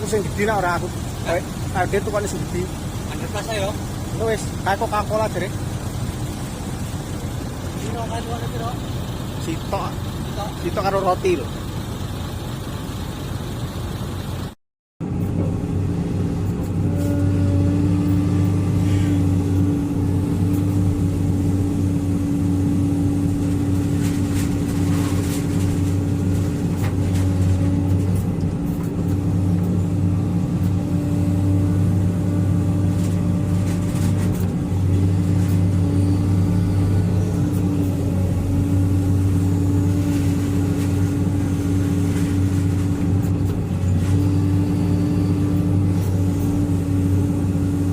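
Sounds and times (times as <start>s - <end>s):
engine humming steadily: 0.0s - 47.9s.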